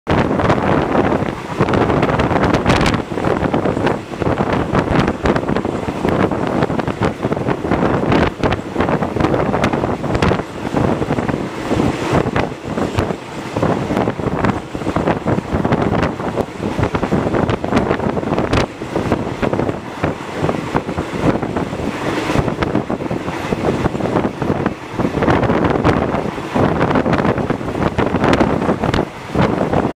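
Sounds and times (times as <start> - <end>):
train running noise: 0.1 - 29.9
wind buffeting microphone: 0.1 - 29.9.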